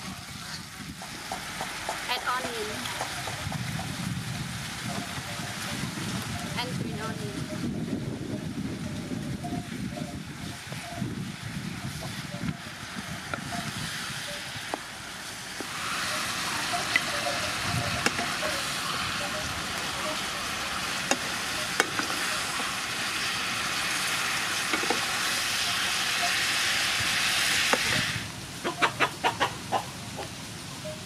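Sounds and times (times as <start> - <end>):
stir-fry sizzling in pan: 0.0 - 31.0.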